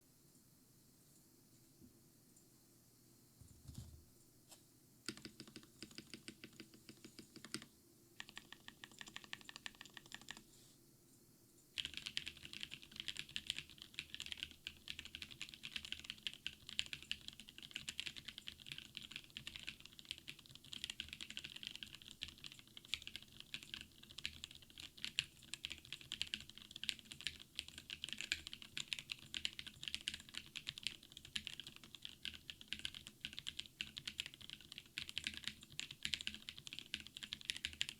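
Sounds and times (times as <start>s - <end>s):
mechanical keyboard keys clacking: 5.1s - 10.4s, 11.8s - 37.9s.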